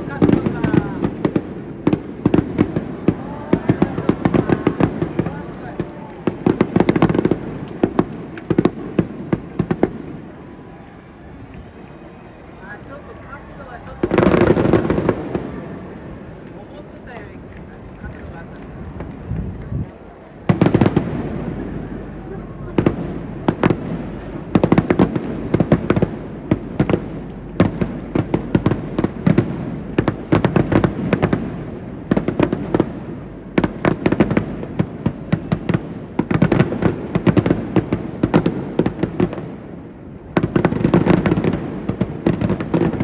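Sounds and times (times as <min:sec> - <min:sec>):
fireworks crackling pops: 0:00.0 - 0:22.0, 0:22.7 - 0:39.6, 0:40.3 - 0:43.0.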